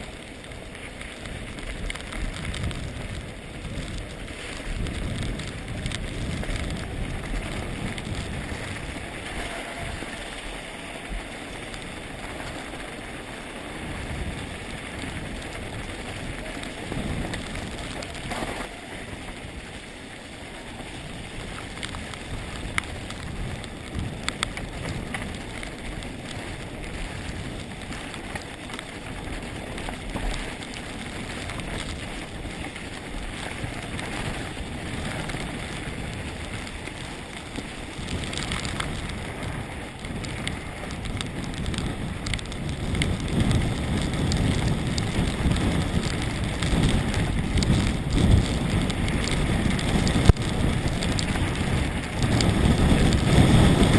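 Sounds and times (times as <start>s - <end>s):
bike clicks and rattles: 0.0s - 53.9s
wind buffeting microphone: 0.0s - 53.9s
tyres crunching over stones: 0.3s - 53.9s.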